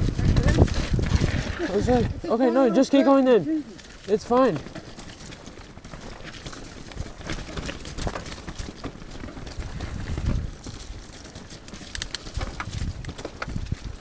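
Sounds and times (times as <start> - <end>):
bike rattling over ground: 0.0 - 14.0.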